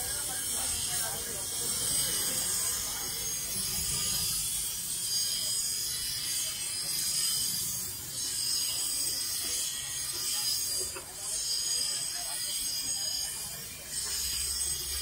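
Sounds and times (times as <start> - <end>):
grinding wheel on steel blade: 0.0 - 15.0.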